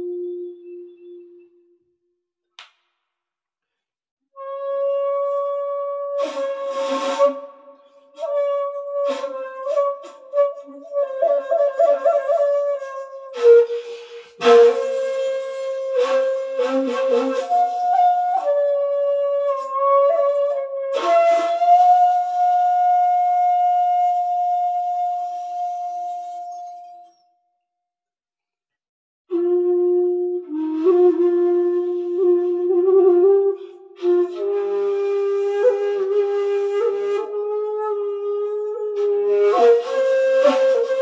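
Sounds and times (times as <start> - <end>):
bamboo flute playing slow notes: 0.0 - 2.0, 4.4 - 27.4, 29.3 - 41.0.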